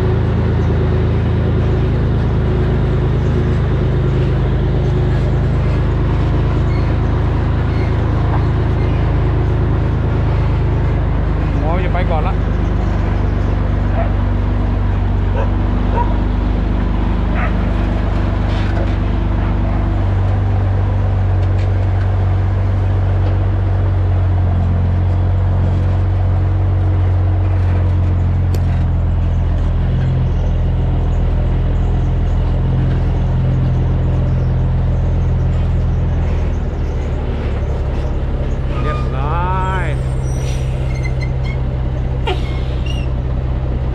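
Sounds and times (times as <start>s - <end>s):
truck diesel engine droning: 0.0s - 43.9s.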